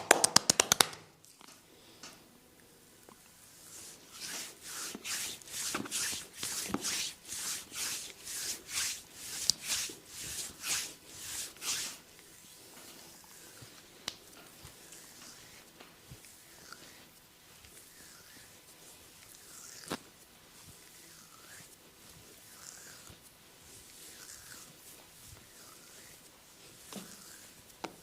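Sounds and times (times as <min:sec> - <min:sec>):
hands rubbing: 0:00.0 - 0:01.0, 0:03.5 - 0:28.0.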